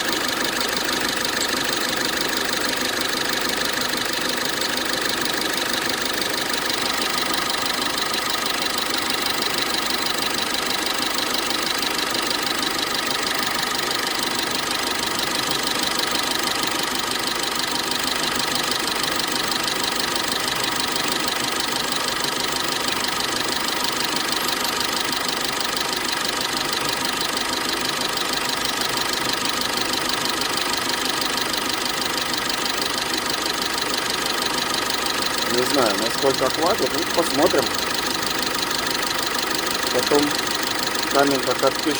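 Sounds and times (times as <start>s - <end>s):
diesel engine idling: 0.0s - 41.9s
drive belt running: 0.0s - 41.9s.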